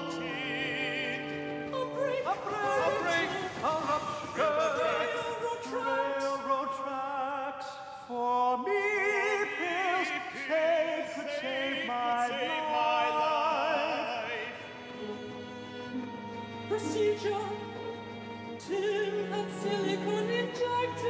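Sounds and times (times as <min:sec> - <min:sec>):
two men singing operatic duet: 0:00.0 - 0:15.2, 0:16.7 - 0:21.0.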